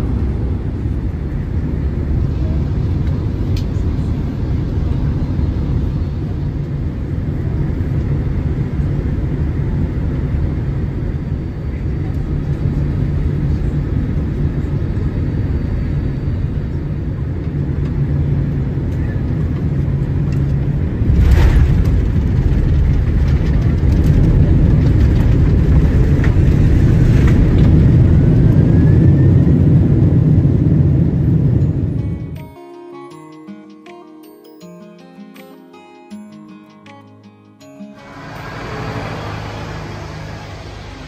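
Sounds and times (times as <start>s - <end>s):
jet engine drone: 0.0s - 32.4s, 37.8s - 41.0s
rumbling roar on runway: 0.0s - 32.4s, 38.1s - 41.0s.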